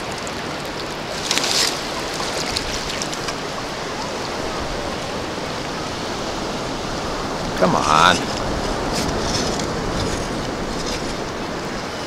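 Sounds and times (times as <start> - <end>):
surf washing and sloshing: 0.0 - 12.0.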